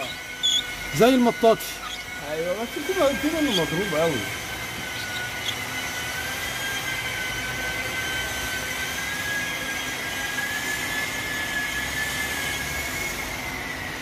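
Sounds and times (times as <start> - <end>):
machine high-pitched whine: 0.0 - 14.0.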